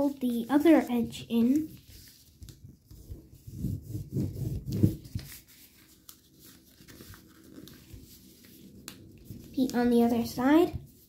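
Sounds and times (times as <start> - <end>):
paper being folded and creased: 0.0 - 11.0.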